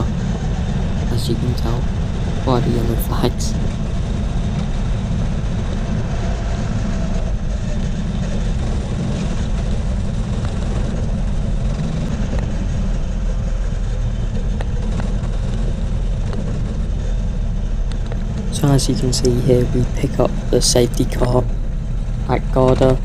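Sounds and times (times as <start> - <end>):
kart engine running: 0.0 - 23.0.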